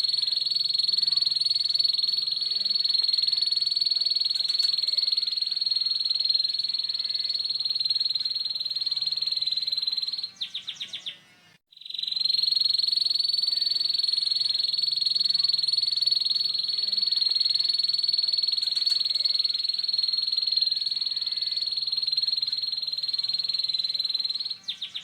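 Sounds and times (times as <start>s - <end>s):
canary singing trill: 0.0s - 25.0s.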